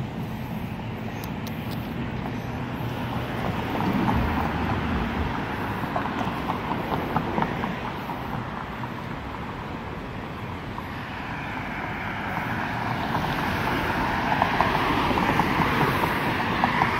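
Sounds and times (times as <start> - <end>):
city street traffic: 0.0 - 16.9.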